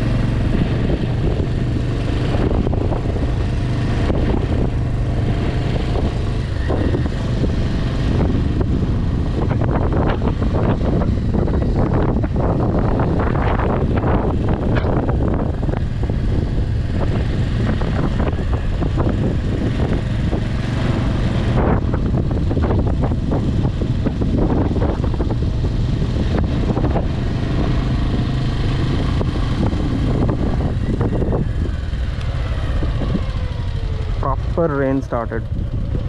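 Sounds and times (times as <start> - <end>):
vehicle engine and road rumble: 0.0 - 36.0
wind buffeting microphone: 0.0 - 36.0.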